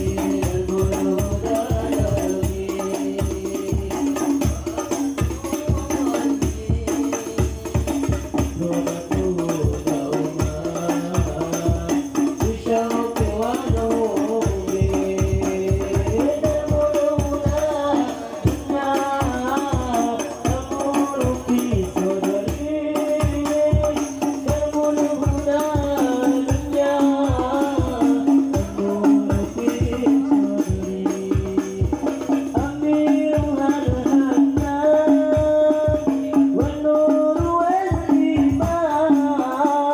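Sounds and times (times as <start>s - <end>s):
frame drums beating: 0.0s - 39.9s
voices singing devotional melody: 0.0s - 39.9s.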